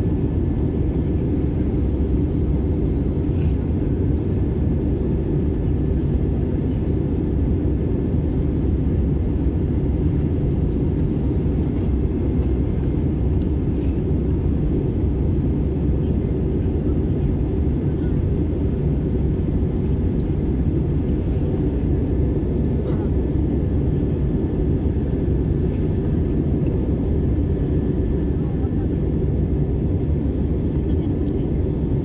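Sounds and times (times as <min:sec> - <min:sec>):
jet airliner cabin roar: 0:00.0 - 0:32.0.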